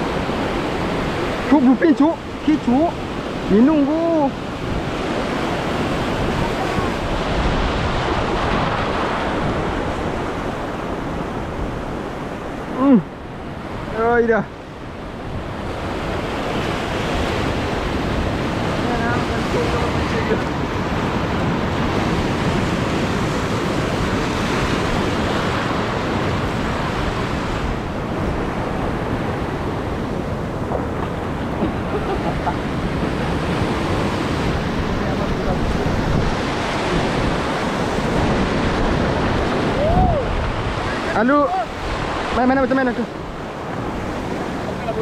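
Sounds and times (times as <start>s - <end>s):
surf washing over reef: 0.0s - 45.0s
wind on microphone: 0.0s - 45.0s.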